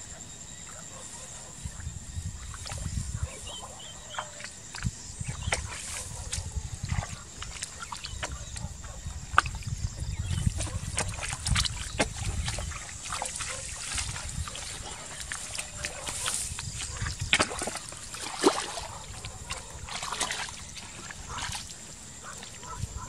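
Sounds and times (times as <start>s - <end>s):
mud squelching and sloshing: 2.3s - 23.0s.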